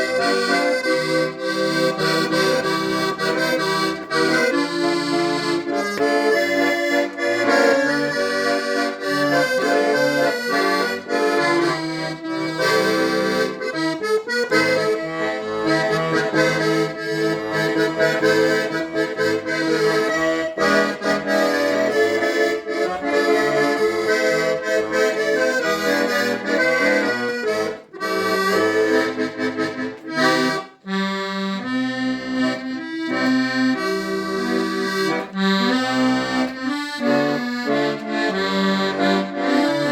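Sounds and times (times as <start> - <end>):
accordion playing melody: 0.0 - 39.9.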